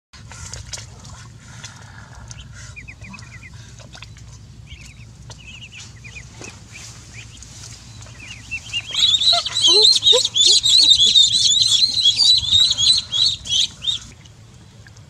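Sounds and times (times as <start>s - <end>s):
ducklings peeping: 0.4s - 14.2s.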